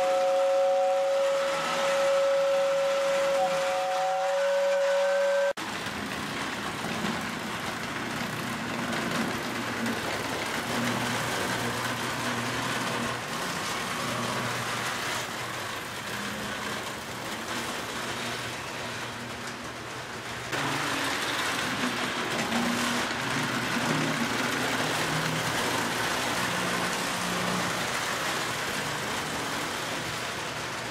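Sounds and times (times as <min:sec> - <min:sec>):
model train wheels rumbling: 0:00.0 - 0:30.9.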